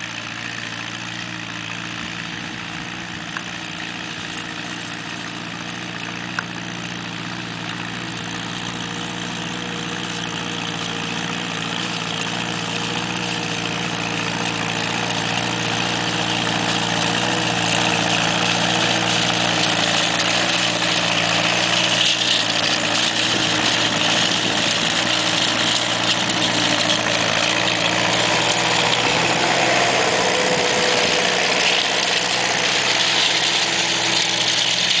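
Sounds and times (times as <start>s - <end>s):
tractor engine running under load: 0.0s - 35.0s.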